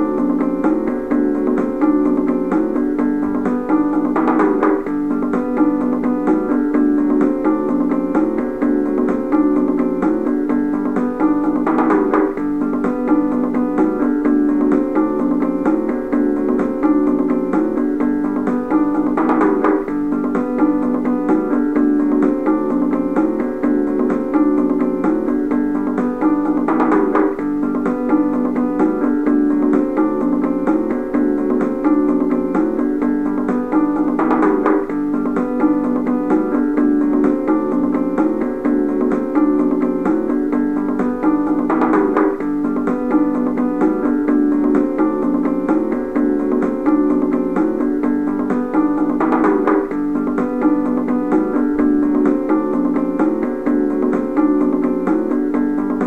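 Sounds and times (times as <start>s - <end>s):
instrumental music: 0.0s - 56.0s.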